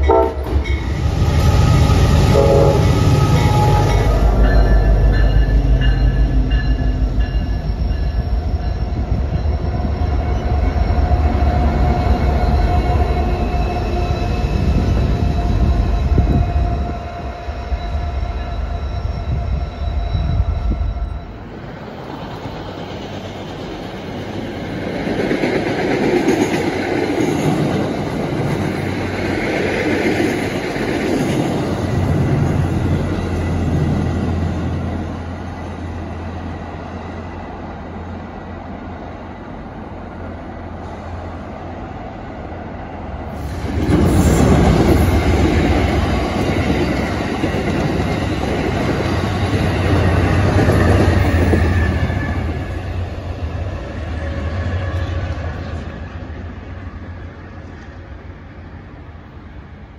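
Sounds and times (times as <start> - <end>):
commuter train rolling past: 0.0 - 59.9
passenger train passing loudly: 0.0 - 59.9.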